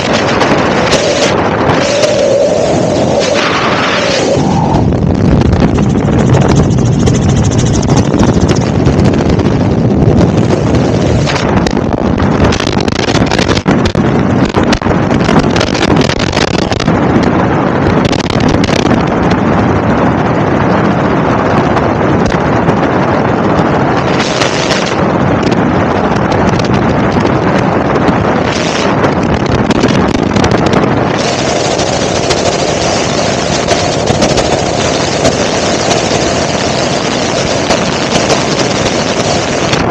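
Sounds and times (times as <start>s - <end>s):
helicopter engine and rotor: 0.0s - 39.9s
steady whine: 0.0s - 39.9s
wind buffeting microphone: 0.0s - 39.9s.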